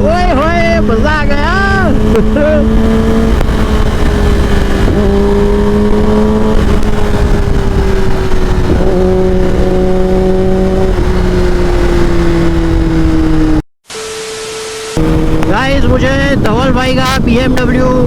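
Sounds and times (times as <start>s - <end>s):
wind rumble on microphone: 0.0s - 13.6s, 15.0s - 18.0s
motorcycle engine under way: 0.0s - 18.0s.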